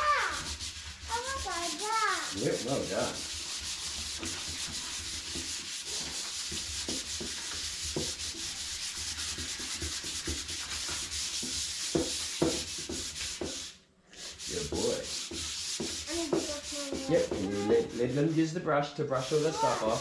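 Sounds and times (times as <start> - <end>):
sandpaper rubbing painted wood: 0.0 - 20.0.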